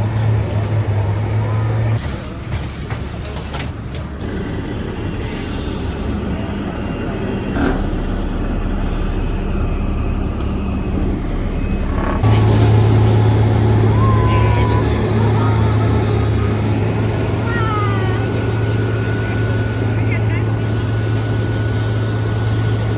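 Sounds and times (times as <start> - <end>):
heavy vehicle engine rumbling: 0.0 - 22.9.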